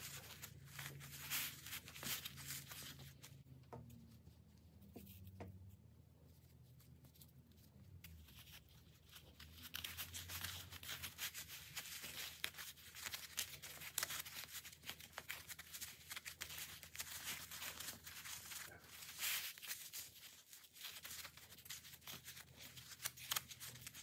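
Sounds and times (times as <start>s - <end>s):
wool rustling and crackling: 0.0s - 5.2s, 5.8s - 24.0s.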